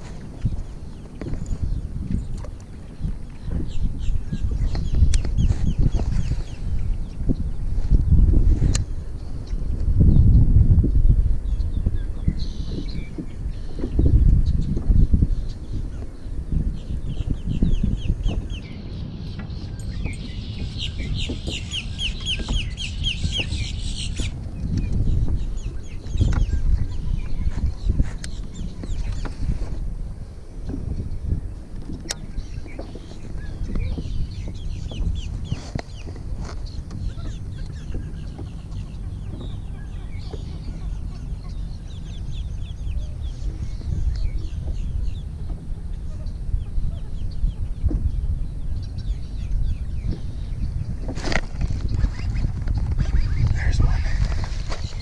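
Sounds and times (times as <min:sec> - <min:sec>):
birds chirping: 0:00.0 - 0:55.0
wind rumble on microphone: 0:00.0 - 0:55.0.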